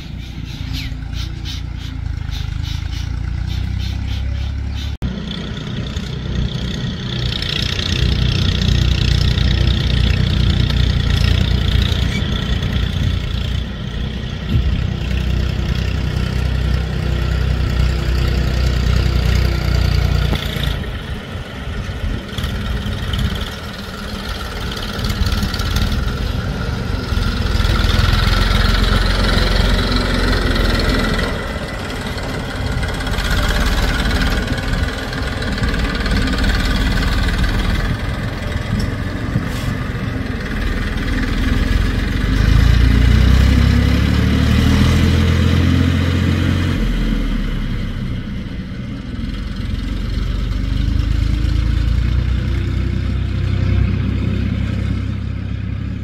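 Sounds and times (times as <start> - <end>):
backhoe diesel engine revving: 0.0 - 56.0.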